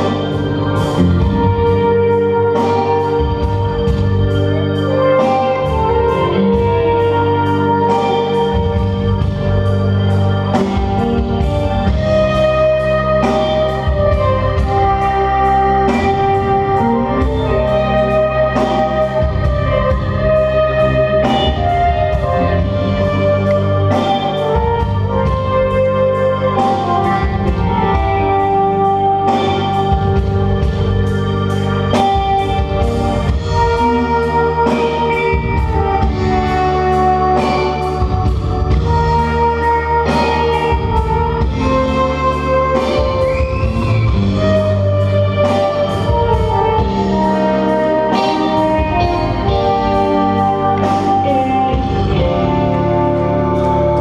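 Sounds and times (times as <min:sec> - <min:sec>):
bass guitar: 0:00.0 - 0:54.0
organ chords: 0:00.0 - 0:54.0.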